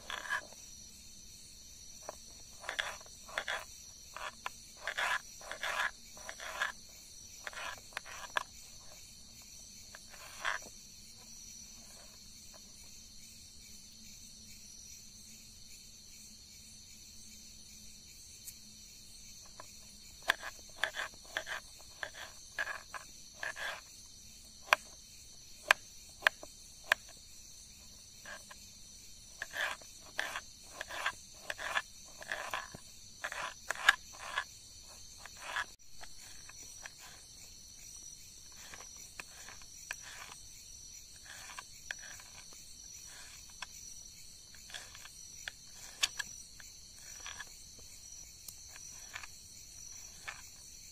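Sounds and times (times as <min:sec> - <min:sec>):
crickets chirring: 0:00.0 - 0:50.9.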